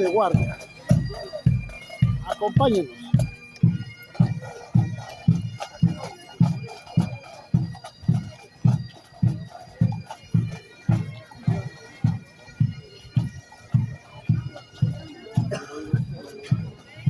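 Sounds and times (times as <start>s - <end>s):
bagpipes playing a march: 0.0s - 17.0s.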